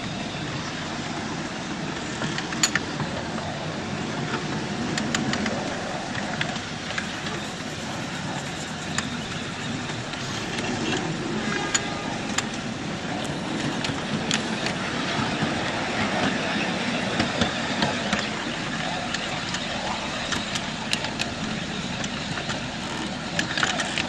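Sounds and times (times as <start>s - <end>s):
rumble of train wheels: 0.0s - 24.0s
wheels clicking over rail joints: 1.4s - 24.0s.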